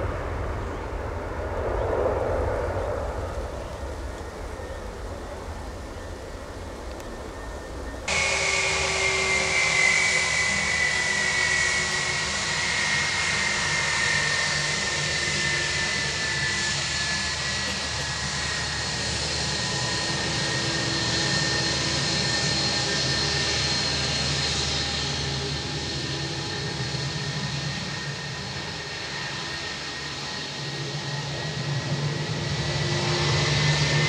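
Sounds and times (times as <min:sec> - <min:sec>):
jet engines whining and roaring: 0:00.0 - 0:34.0.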